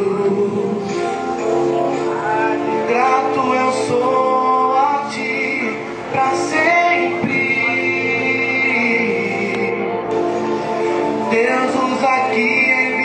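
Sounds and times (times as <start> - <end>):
voices singing worship song: 0.0 - 10.1, 11.0 - 13.0
instrumental accompaniment: 0.0 - 13.0.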